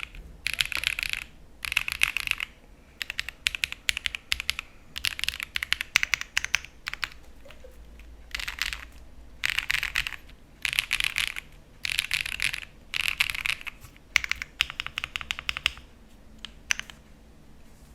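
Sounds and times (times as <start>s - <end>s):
mechanical keyboard typing: 0.0s - 17.0s.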